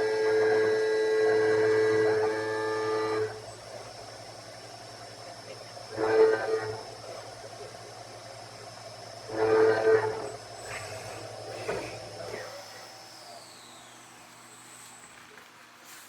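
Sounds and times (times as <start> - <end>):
mill cutting steel whine: 0.0 - 15.6
low machine hum: 0.0 - 16.0.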